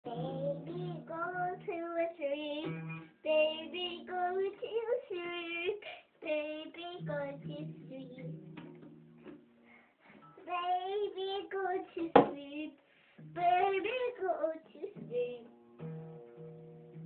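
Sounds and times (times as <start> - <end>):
girl singing: 0.0 - 8.9, 10.2 - 15.6.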